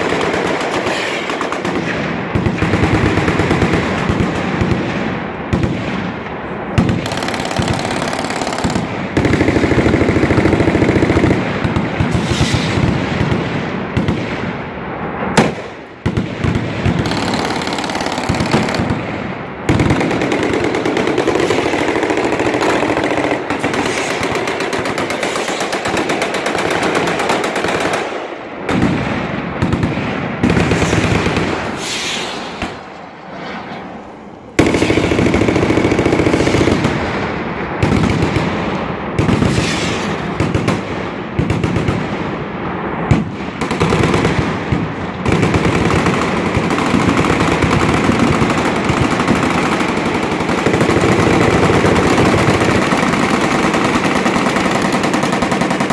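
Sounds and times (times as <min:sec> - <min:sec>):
machine guns firing: 0:00.0 - 0:14.5, 0:15.4 - 0:31.9, 0:34.6 - 0:42.3, 0:43.1 - 0:55.9.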